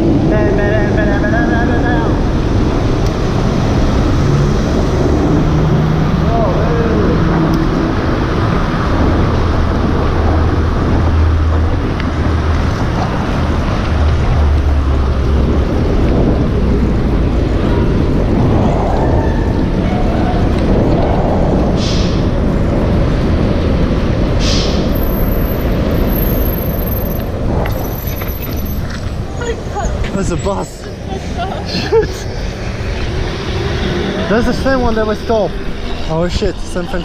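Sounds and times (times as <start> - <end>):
heavy wind noise on microphone: 0.0 - 37.0
motor traffic droning: 0.0 - 37.0.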